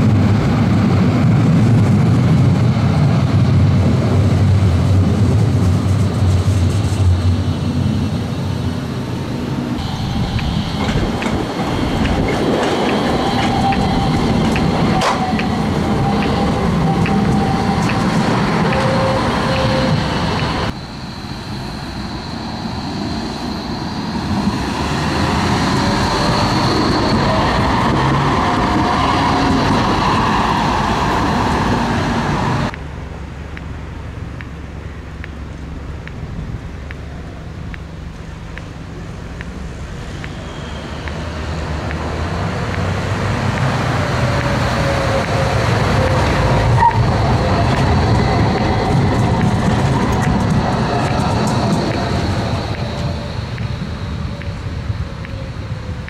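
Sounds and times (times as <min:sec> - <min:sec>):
road traffic: 0:00.0 - 0:56.0
tram wheels on rails: 0:00.0 - 0:56.0.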